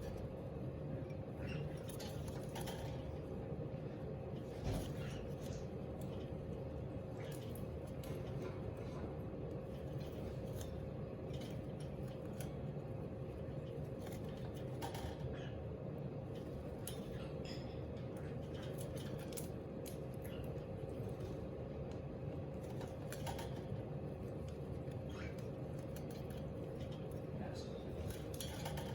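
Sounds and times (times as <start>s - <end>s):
steady background hum: 0.0s - 28.9s.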